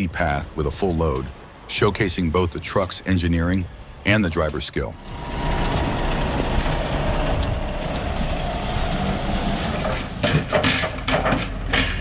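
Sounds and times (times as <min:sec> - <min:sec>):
truck engine running under load: 0:00.2 - 0:12.0.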